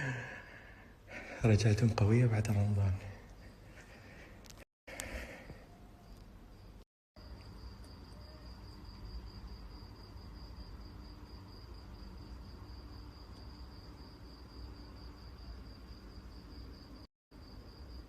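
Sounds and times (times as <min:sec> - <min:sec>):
cricket chirring: 0:00.1 - 0:18.0.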